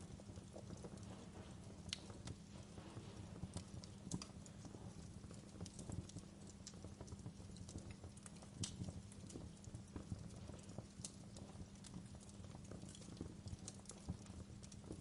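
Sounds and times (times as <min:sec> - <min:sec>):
low rumble of flames: 0:00.0 - 0:15.0
wood fire snaps and pops: 0:00.0 - 0:15.0.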